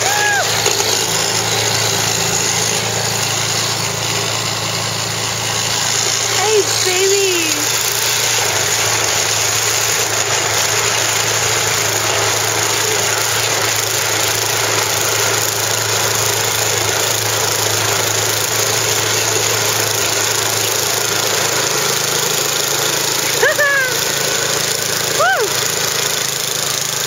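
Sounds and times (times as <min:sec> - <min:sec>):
snow blower engine humming: 0:00.0 - 0:27.0.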